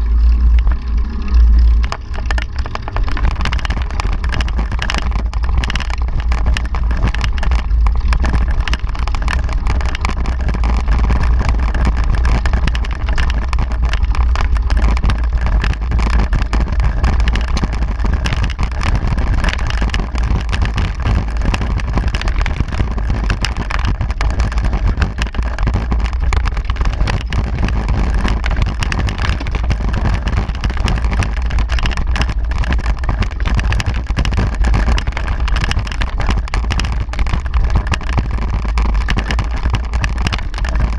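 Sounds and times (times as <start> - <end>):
bike tyre and riding noise: 0.0 - 40.9
wind rumble on microphone: 0.0 - 40.9.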